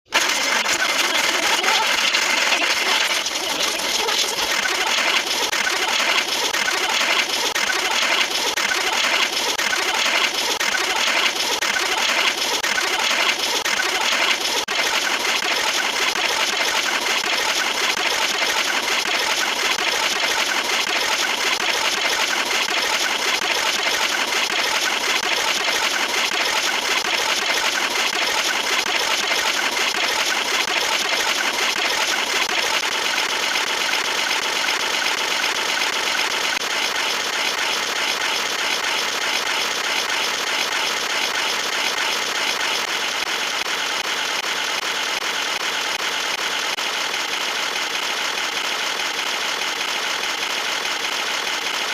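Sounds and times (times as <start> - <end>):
harsh din of sound effects: 0.1 - 48.6.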